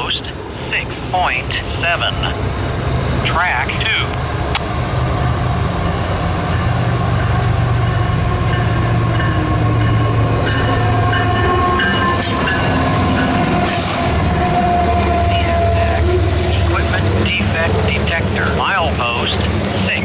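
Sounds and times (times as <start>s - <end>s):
locomotive engine rumbling and whining: 0.0s - 20.0s
wheels rushing on rail: 0.0s - 20.0s.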